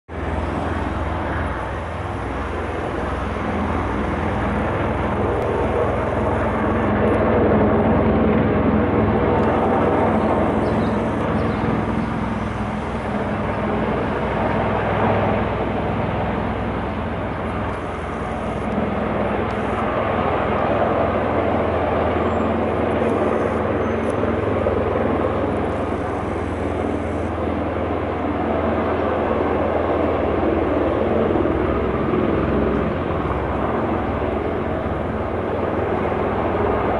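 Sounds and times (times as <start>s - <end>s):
tiltrotor aircraft drone: 0.1s - 36.9s.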